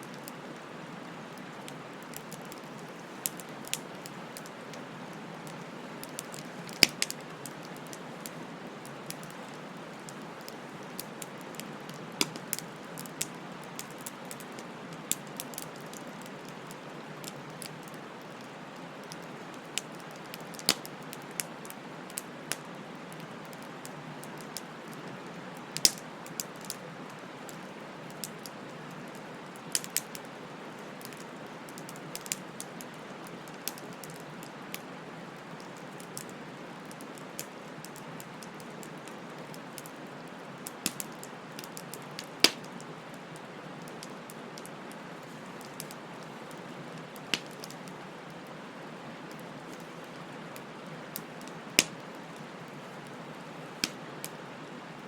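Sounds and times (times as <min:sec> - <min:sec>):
burning wood crackling and popping: 0:00.0 - 0:54.4.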